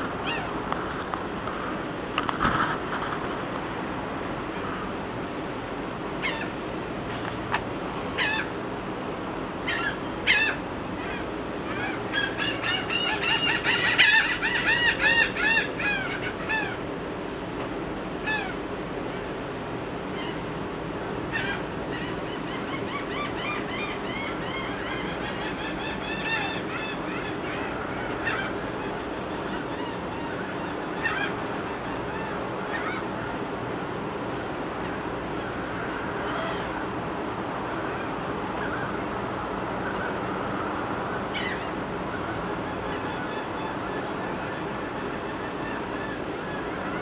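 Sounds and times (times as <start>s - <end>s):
birds honking calls: 0.0s - 1.2s, 6.1s - 8.7s, 9.4s - 17.3s, 18.1s - 19.3s, 20.0s - 47.0s
steady background noise: 0.0s - 47.0s.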